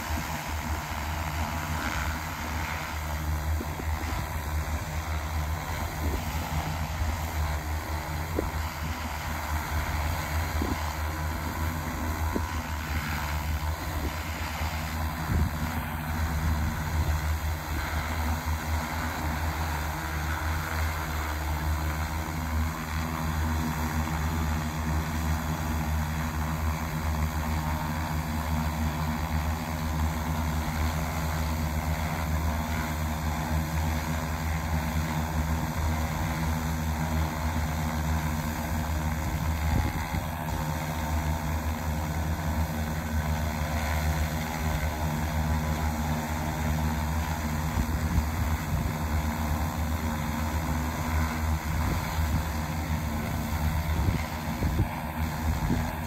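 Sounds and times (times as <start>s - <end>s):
drone hovering hum: 0.0s - 56.0s.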